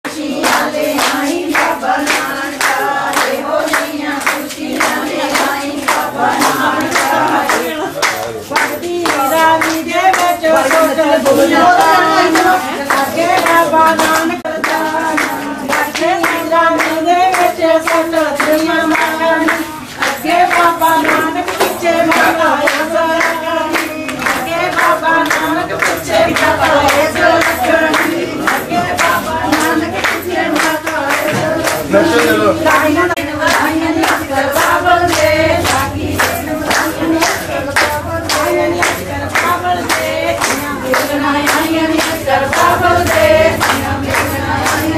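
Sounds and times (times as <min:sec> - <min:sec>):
rhythmic hand-clapping: 0:00.0 - 0:44.9
women singing in chorus: 0:00.0 - 0:44.9.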